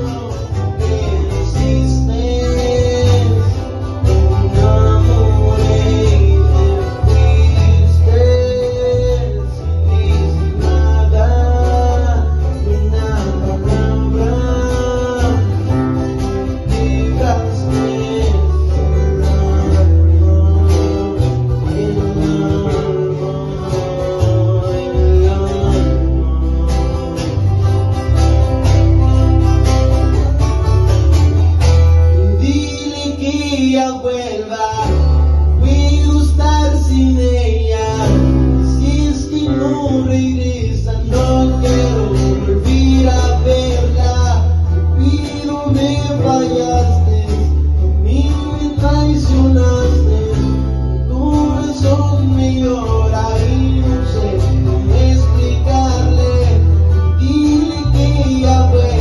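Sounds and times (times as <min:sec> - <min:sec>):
deep bass: 0:00.0 - 0:59.0
plucked guitar melody: 0:00.0 - 0:59.0.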